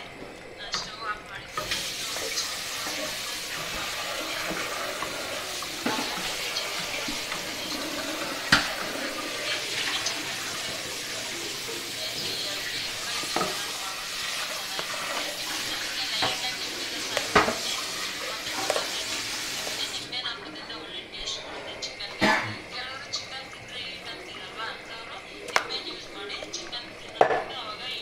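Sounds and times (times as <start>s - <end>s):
curry sizzling in a pot: 0.9s - 20.7s, 22.0s - 28.0s.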